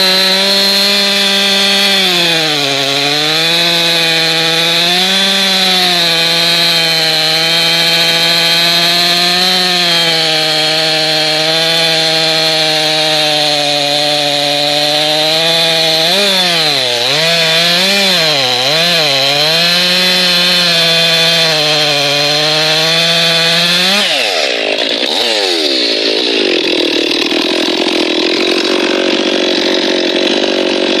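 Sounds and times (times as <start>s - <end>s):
chainsaw cutting log: 0.0s - 31.0s.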